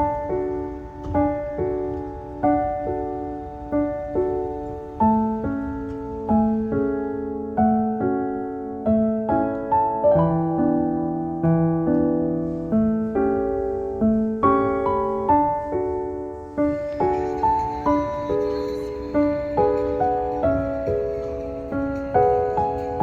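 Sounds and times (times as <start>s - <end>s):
gentle solo piano waltz: 0.0s - 23.0s.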